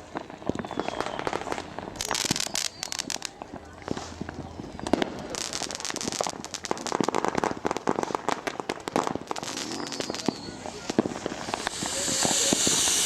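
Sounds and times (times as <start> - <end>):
firecrackers popping and crackling: 0.0 - 13.0
firework hiss: 0.0 - 13.0.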